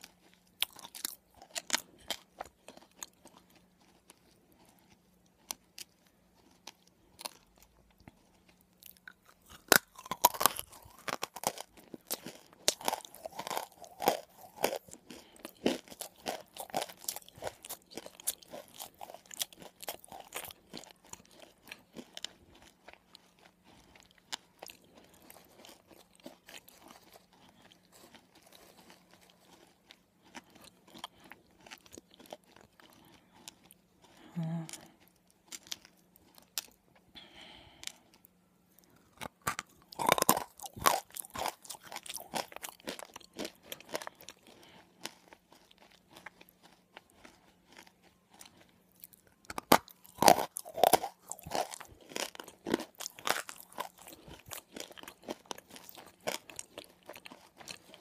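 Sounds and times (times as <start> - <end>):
person crunching and chewing: 0.0 - 58.0.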